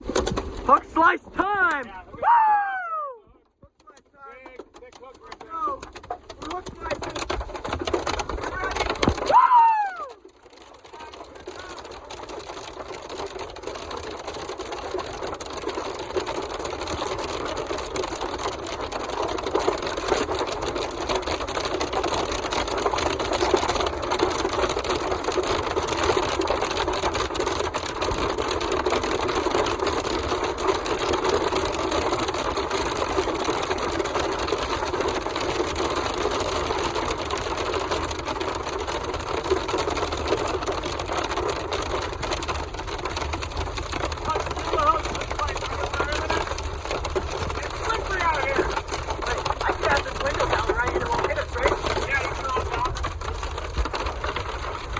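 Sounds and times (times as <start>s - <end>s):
rain and hail drumming on vehicle roof: 0.0s - 2.4s, 3.8s - 54.9s.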